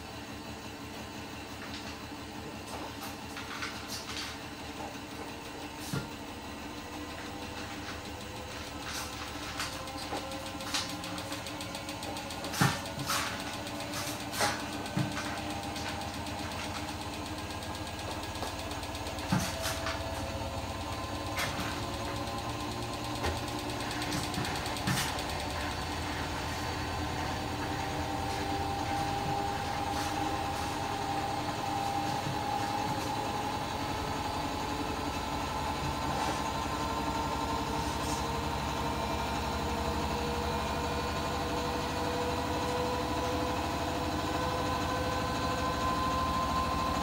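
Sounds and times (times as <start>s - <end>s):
washing machine motor whine: 0.0s - 47.0s.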